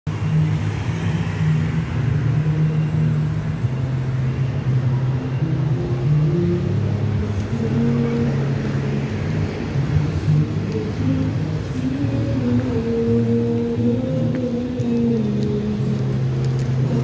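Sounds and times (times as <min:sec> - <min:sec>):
passing vehicle engines: 0:00.1 - 0:17.0.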